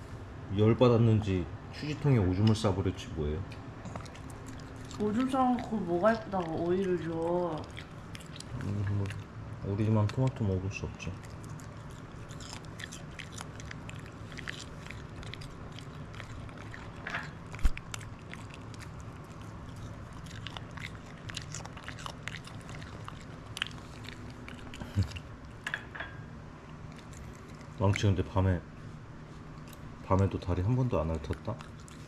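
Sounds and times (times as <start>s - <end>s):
dog chewing cucumber: 1.8s - 25.6s, 26.7s - 28.6s, 29.5s - 32.0s.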